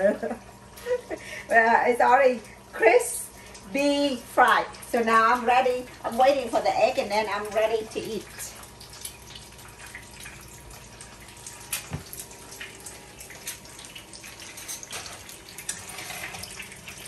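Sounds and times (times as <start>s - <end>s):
eggs sizzling in a pan: 0.2s - 17.0s.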